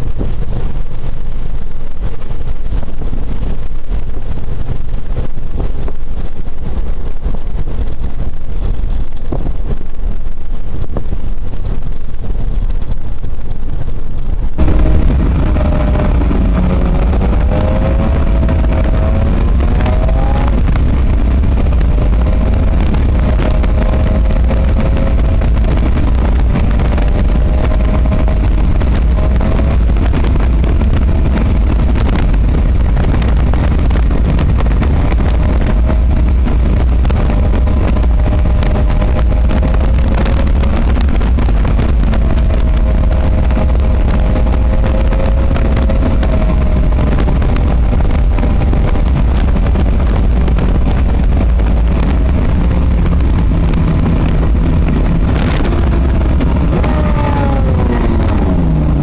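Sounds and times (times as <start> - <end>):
engine drone: 0.0 - 59.0
road and wind rumble: 0.0 - 59.0.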